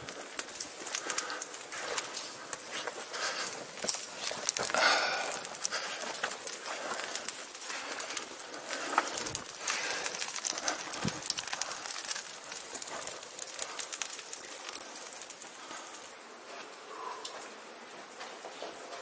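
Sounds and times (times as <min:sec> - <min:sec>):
torch flame crackling: 0:00.0 - 0:16.8.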